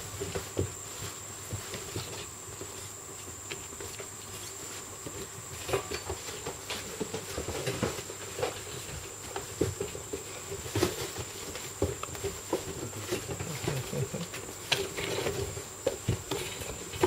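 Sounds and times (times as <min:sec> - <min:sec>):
puppies tapping and scuffing: 0:00.0 - 0:17.0.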